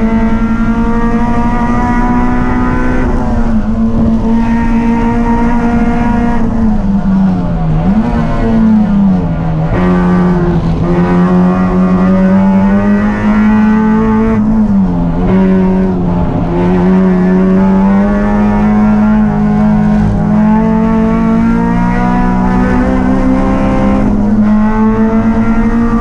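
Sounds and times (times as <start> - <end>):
race car engine at high revs: 0.0 - 26.0.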